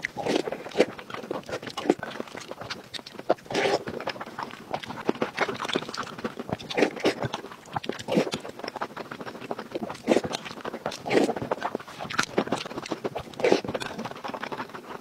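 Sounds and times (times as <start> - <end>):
person chewing with wet smacking: 0.0 - 15.0.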